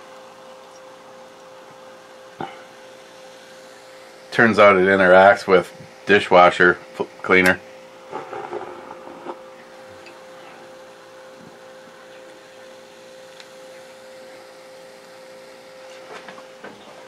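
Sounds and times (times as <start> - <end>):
appliance or fan humming: 0.0 - 17.0.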